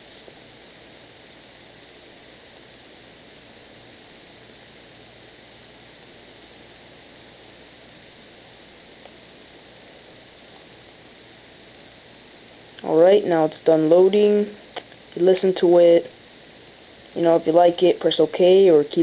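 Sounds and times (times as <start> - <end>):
background hiss: 0.0 - 19.0
faint hum: 0.0 - 19.0.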